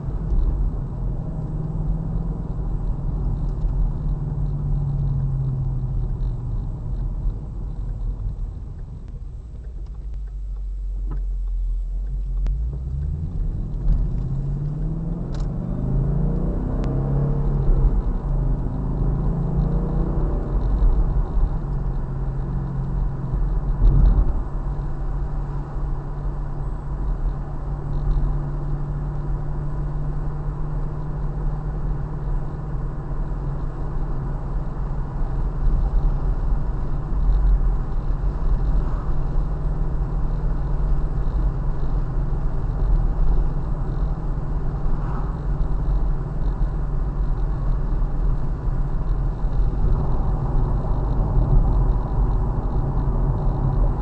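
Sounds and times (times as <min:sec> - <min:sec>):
car engine drone: 0:00.0 - 0:54.0
tyre and road rumble: 0:00.0 - 0:54.0.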